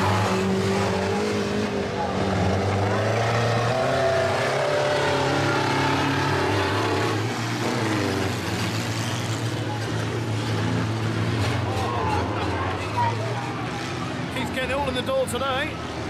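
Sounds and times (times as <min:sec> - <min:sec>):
van engines droning: 0:00.0 - 0:16.0.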